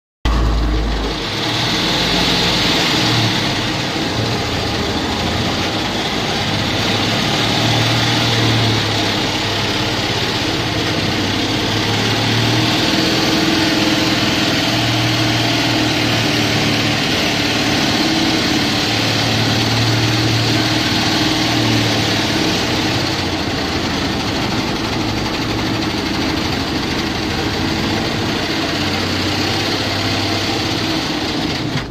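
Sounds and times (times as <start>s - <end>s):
tractor engine running: 0.2s - 31.9s
rotary mower cutting grass: 0.3s - 31.9s.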